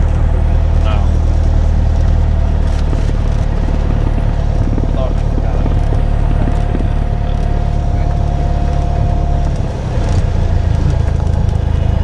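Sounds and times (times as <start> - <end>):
propeller engine drone: 0.0 - 12.0.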